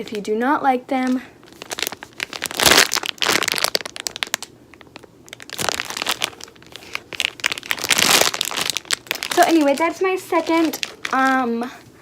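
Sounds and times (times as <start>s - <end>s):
plastic packaging crinkling: 1.0s - 11.6s.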